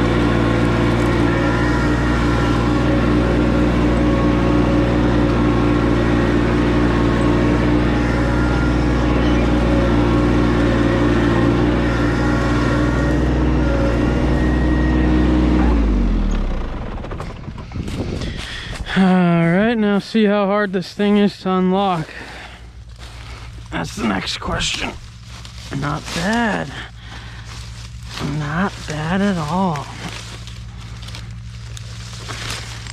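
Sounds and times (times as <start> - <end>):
tractor engine running: 0.0 - 32.9.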